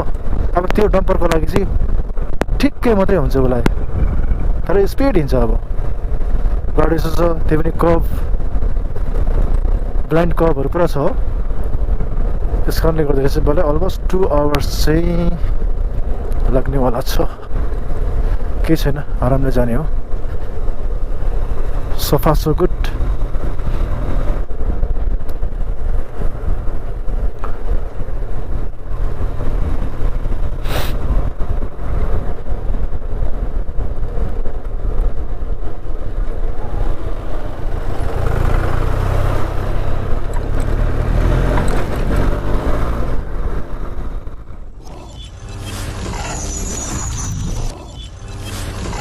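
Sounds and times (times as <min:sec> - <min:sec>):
motorcycle running: 0:00.0 - 0:49.0
wind rumble on microphone: 0:00.0 - 0:49.0.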